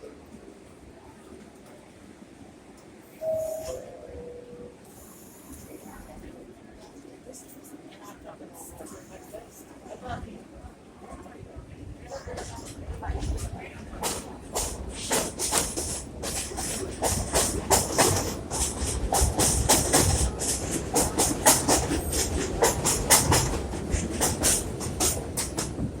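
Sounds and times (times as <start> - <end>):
train rumble: 0.0 - 26.0
subway train wheels clattering: 0.1 - 26.0.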